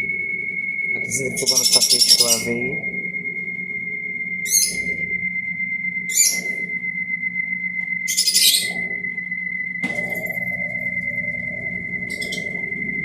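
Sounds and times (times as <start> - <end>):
high-pitched whine: 0.0 - 13.0
washing machine spinning: 0.0 - 13.0.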